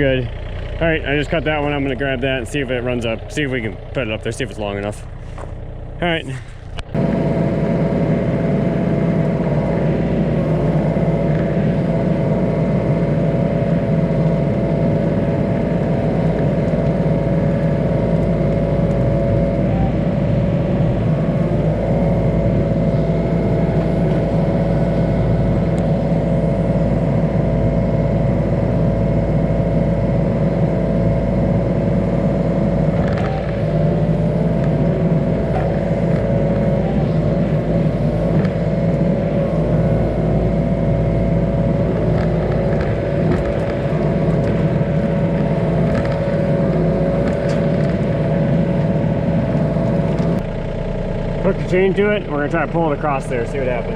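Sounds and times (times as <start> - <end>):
diesel excavator engine running: 0.0 - 53.9.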